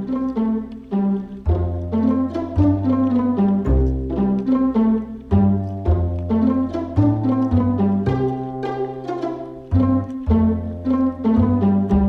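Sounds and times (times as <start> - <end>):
plucked strings over bass notes: 0.0 - 12.0.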